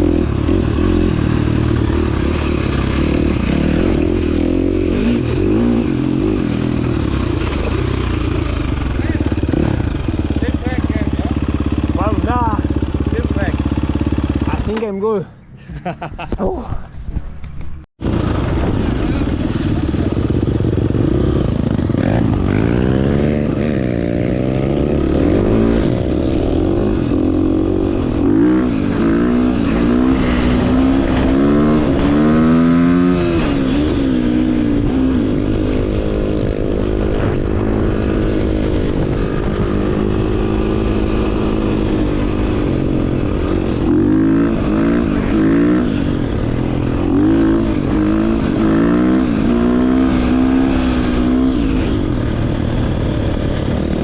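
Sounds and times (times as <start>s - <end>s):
dirt bike engine revving: 0.0s - 15.0s, 18.0s - 54.0s.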